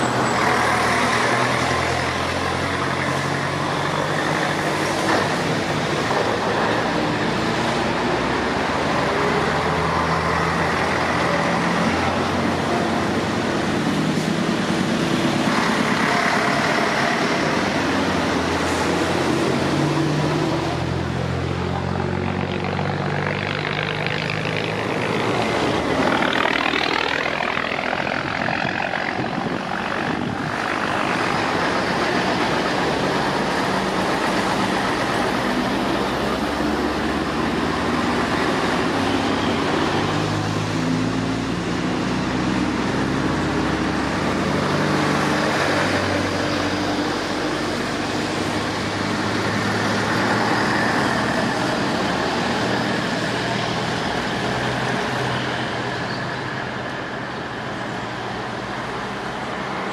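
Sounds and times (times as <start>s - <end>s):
trucks driving past: 0.0s - 59.9s.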